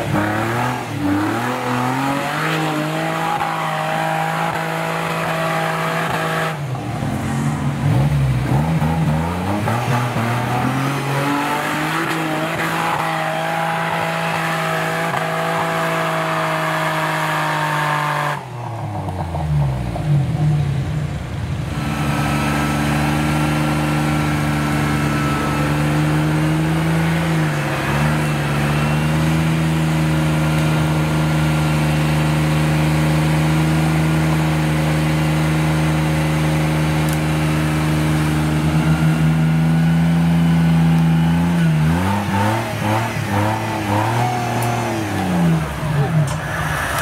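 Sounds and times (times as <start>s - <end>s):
engine revving: 0.0s - 20.2s, 21.7s - 47.0s.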